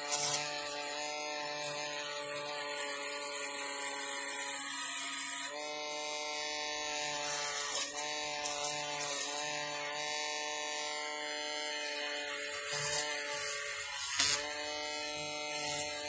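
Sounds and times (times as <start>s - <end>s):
power tool whining: 0.0s - 16.0s.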